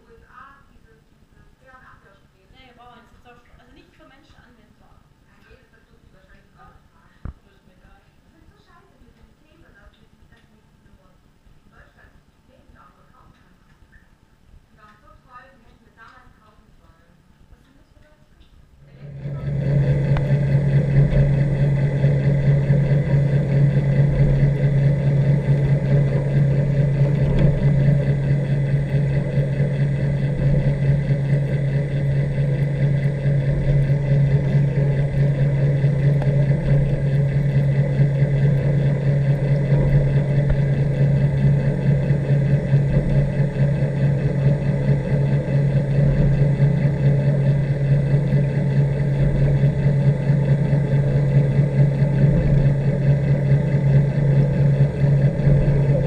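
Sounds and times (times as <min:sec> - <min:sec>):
underwater treadmill hum: 0:00.0 - 0:56.0.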